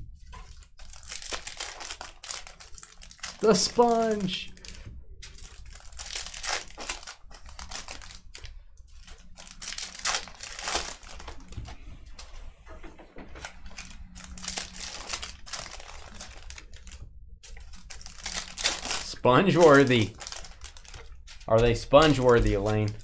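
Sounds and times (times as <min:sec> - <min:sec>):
wrappers crinkling and tearing: 0:00.2 - 0:11.9, 0:13.3 - 0:23.0.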